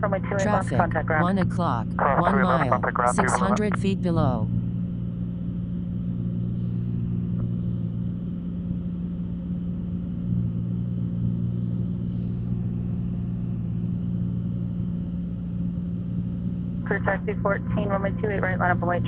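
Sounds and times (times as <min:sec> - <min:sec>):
plane engine droning in cabin: 0:00.0 - 0:19.0.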